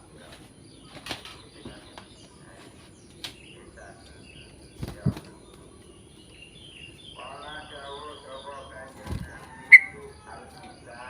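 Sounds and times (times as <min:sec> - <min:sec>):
faint bird chirps: 0:00.0 - 0:11.0
low outdoor background: 0:00.0 - 0:11.0.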